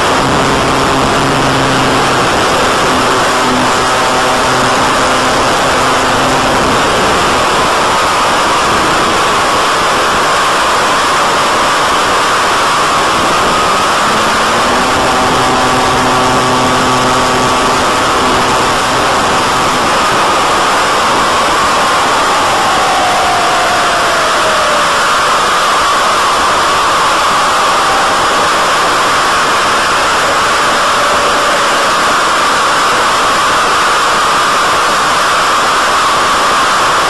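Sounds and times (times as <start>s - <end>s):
rush of air: 0.0s - 33.9s
propeller motor hum: 0.0s - 36.0s.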